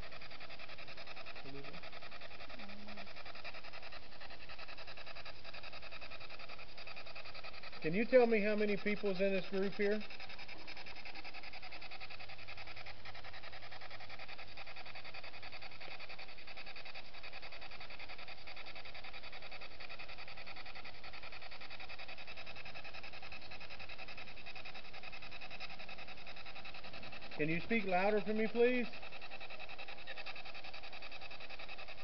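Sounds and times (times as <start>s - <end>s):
radio static with fluttering: 0.0s - 32.0s.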